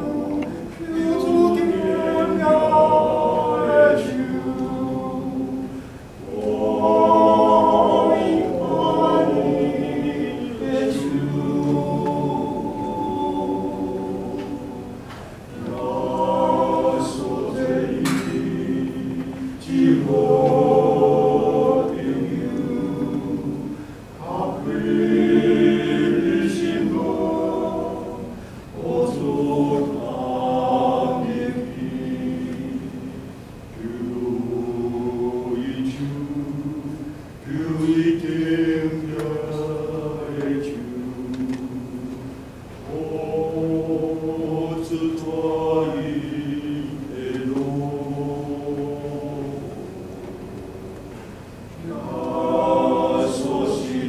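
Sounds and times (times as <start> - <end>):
men's choir singing a hymn: 0.0 - 54.0.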